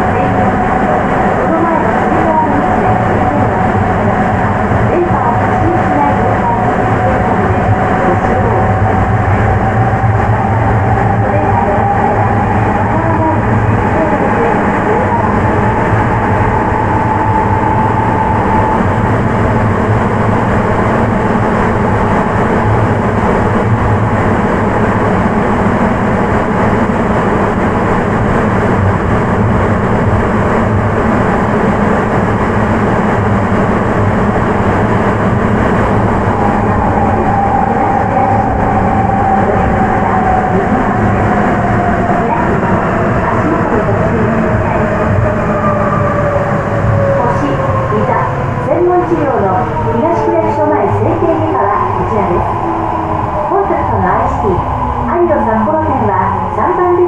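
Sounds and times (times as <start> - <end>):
subway train roar in tunnel: 0.0 - 57.0.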